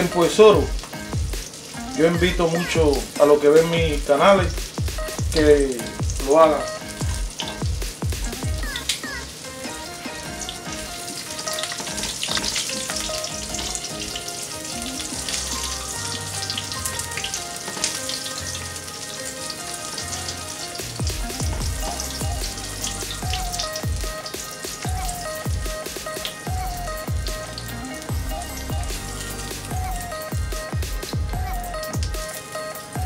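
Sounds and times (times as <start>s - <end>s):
shrimp frying in oil: 0.0s - 33.0s.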